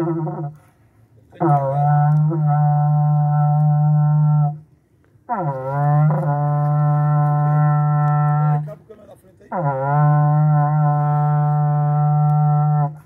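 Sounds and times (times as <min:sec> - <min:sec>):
horn trumpet long notes: 0:00.0 - 0:00.7, 0:01.4 - 0:04.6, 0:05.3 - 0:08.7, 0:09.5 - 0:13.0.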